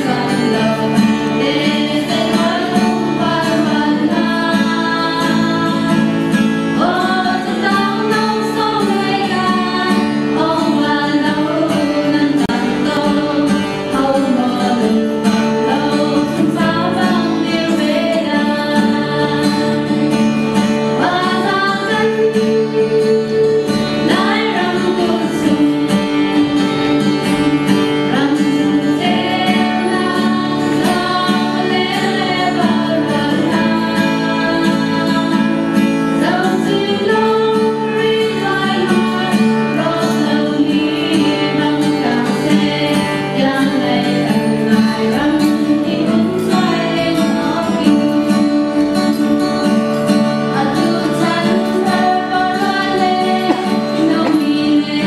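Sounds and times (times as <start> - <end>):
guitar accompaniment: 0.0 - 55.0
women singing in a group: 0.0 - 55.0.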